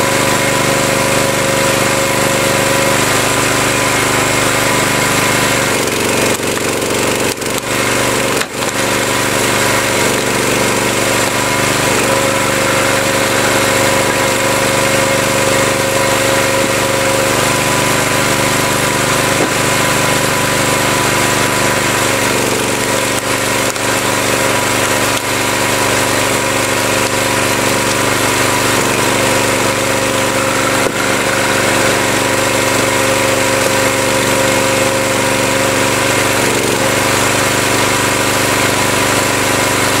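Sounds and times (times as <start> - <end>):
small gas engine running: 0.0 - 40.0.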